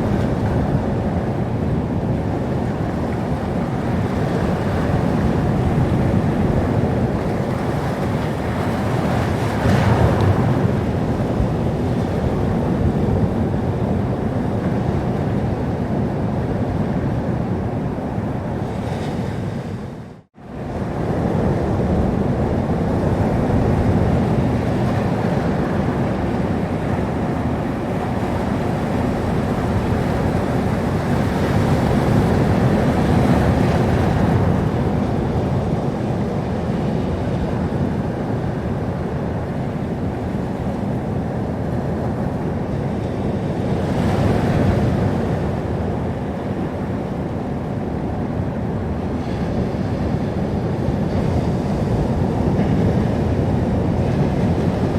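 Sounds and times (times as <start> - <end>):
waves washing on shore: 0.0 - 54.9.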